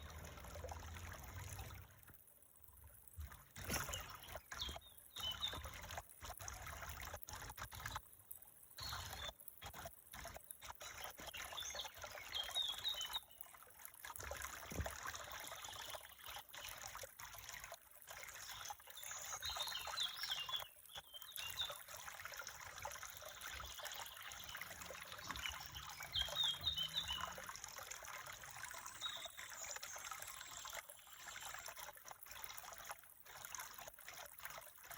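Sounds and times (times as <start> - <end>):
water trickling in a stream: 0.0 - 34.9.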